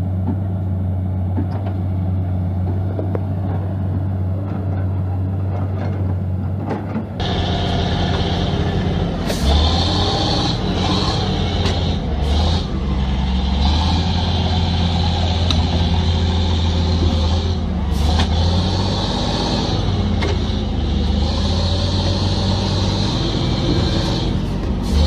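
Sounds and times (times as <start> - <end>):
heavy engine humming: 0.0 - 25.0.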